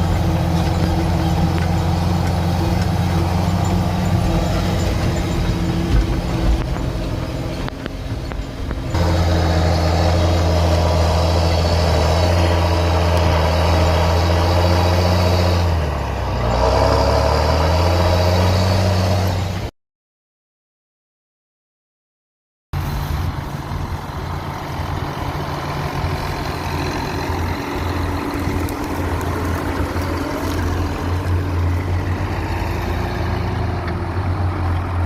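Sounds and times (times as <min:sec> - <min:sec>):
tractor diesel engine running: 0:00.0 - 0:19.7, 0:22.8 - 0:35.0.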